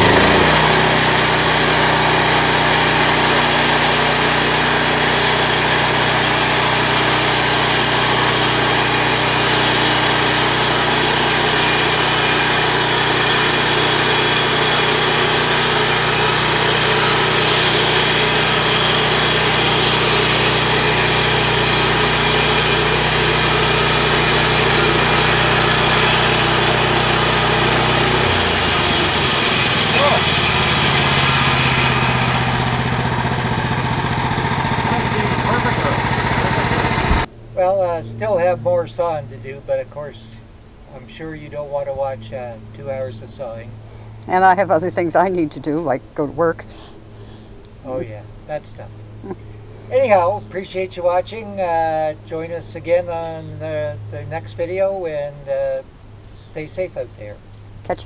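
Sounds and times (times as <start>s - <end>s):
sawmill gas engine running: 0.0s - 55.6s.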